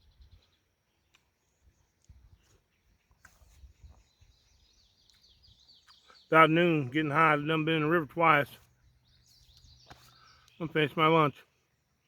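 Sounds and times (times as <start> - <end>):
high falling bird chirps: 0.0 - 12.0.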